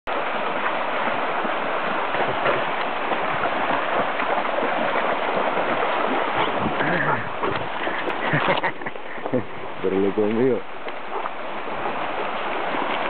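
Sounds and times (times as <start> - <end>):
dogs splashing through water: 0.1 - 13.0
stream rushing over rocks: 0.1 - 13.0.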